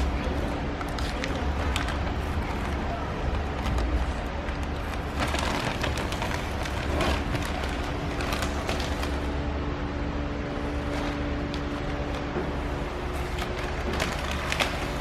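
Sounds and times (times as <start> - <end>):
vinyl film crackling: 0.0 - 9.4, 10.5 - 15.0.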